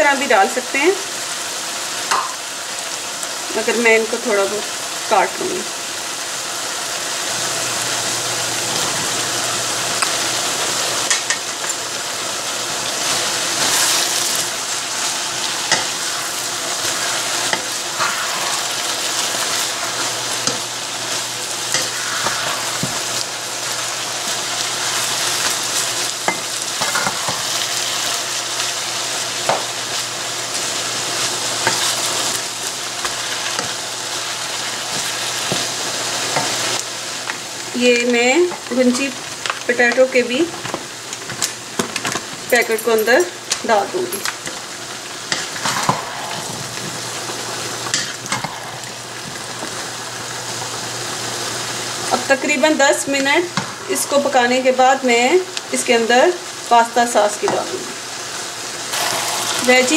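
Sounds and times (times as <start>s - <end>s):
food sizzling in a wok: 0.0s - 59.9s.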